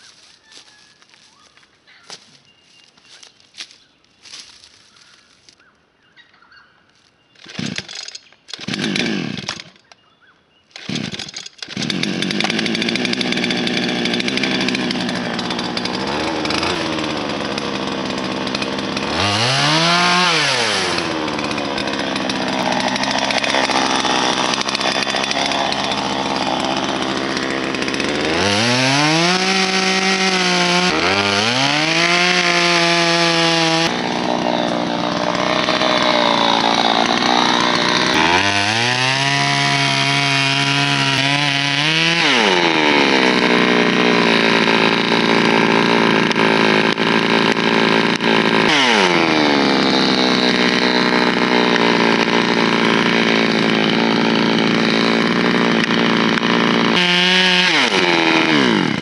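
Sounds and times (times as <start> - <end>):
chainsaw cutting a tree: 0.0 - 5.6, 7.4 - 10.1, 10.7 - 59.0.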